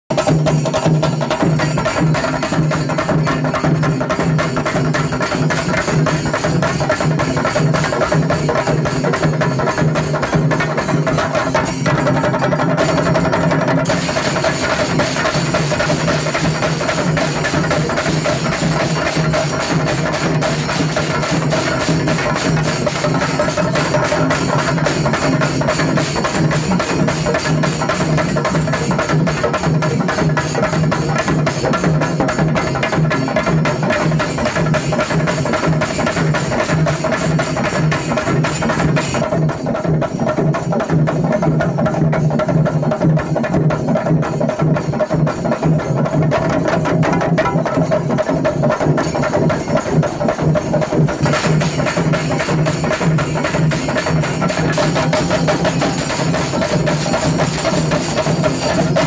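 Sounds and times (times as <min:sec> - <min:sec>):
drums beaten with sticks: 0:00.1 - 0:59.0.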